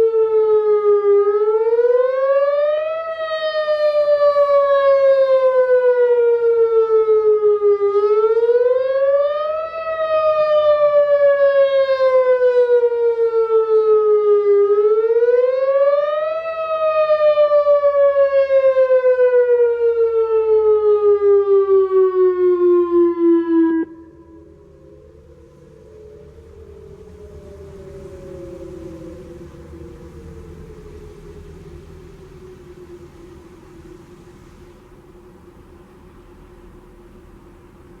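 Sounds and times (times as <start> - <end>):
warning siren rising and falling: 0.0 - 38.0.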